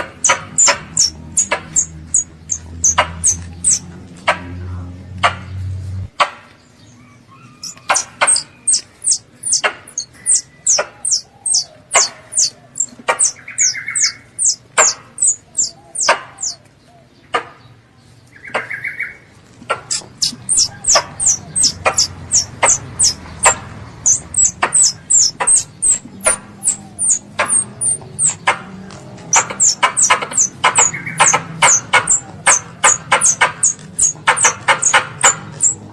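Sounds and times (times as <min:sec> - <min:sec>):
squirrel chirping: 0:00.0 - 0:04.5, 0:07.4 - 0:16.6, 0:19.7 - 0:35.9.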